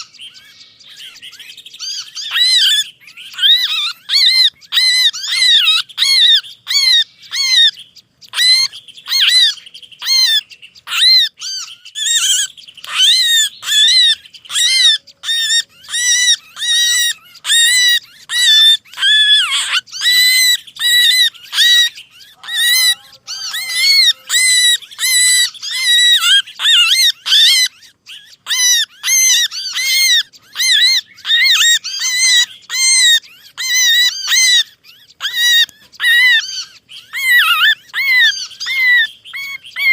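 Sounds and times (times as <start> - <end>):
low squealing bird notes: 0.0 - 39.9
songbirds distress calls: 0.0 - 39.9.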